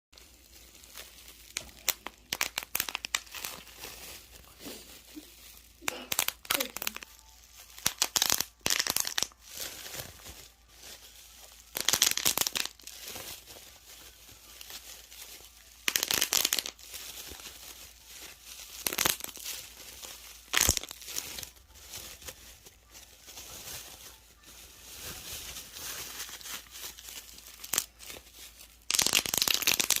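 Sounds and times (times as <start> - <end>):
crinkling and popping: 0.2 - 30.0.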